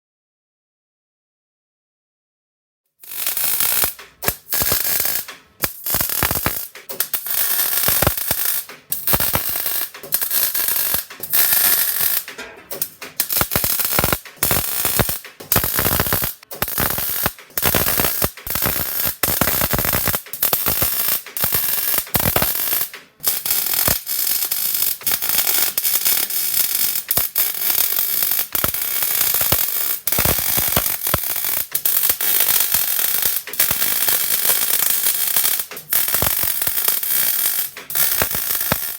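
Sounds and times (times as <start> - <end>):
welding arc crackling: 3.0 - 38.9.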